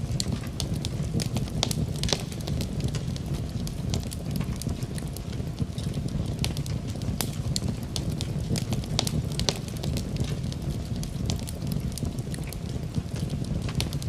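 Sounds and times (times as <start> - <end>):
fire popping and snapping: 0.0 - 14.0
low flame rumble: 0.0 - 14.0.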